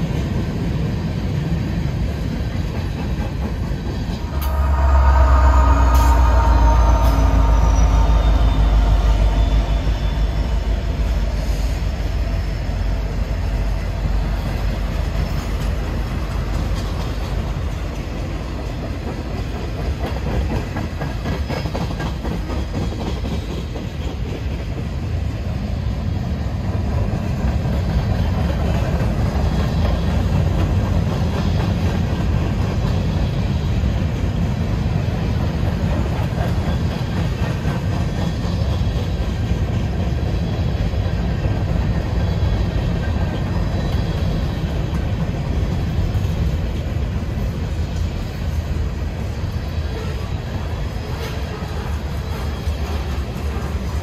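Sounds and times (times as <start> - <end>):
train wheels clattering: 0.0 - 25.6, 26.6 - 54.0
train rumble: 0.0 - 54.0.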